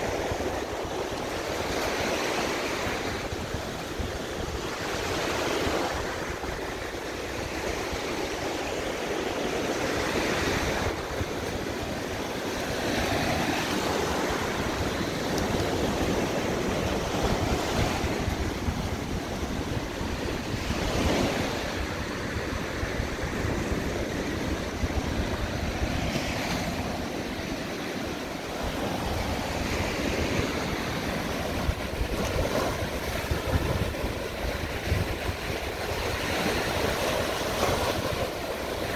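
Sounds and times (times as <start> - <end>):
ocean waves breaking on beach: 0.0 - 38.9
wind on microphone: 0.0 - 38.9.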